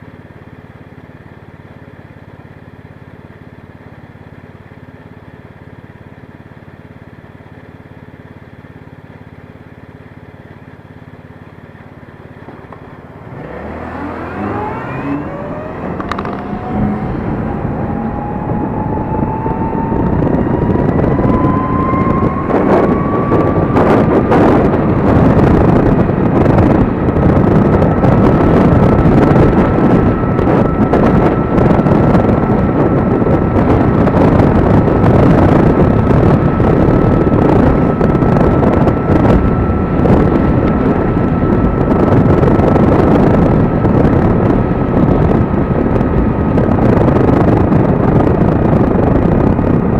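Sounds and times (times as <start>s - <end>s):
electric scooter motor whine: 0.0s - 49.9s
wind and road noise rush: 0.0s - 49.9s.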